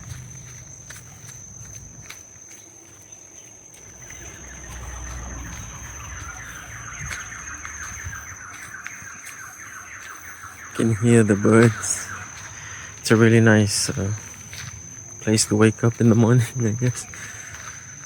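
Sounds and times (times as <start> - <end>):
birds chirping and twittering: 0.0 - 18.0
steady high-pitched whine: 0.0 - 18.0.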